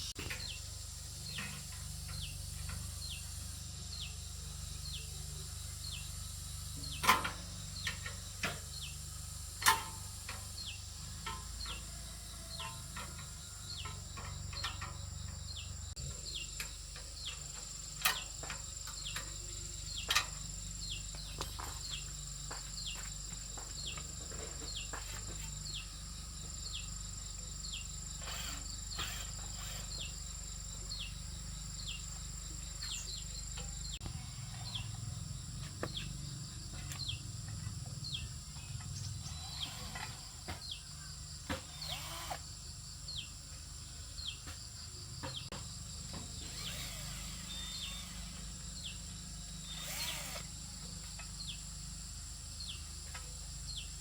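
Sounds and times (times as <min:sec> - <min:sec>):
falling insect chirp: 0:00.0 - 0:54.0
insects whining: 0:00.0 - 0:54.0.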